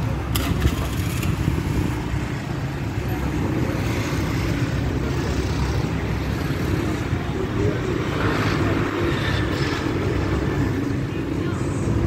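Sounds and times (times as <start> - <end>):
scooters and cars rumbling: 0.0 - 12.0.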